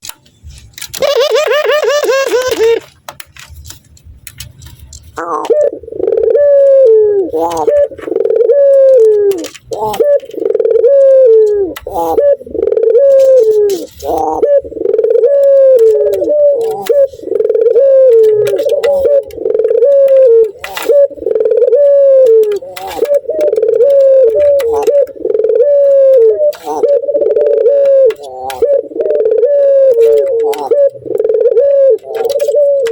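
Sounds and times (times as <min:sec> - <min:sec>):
dove laughing coo: 0:00.9 - 0:03.0, 0:05.2 - 0:32.9.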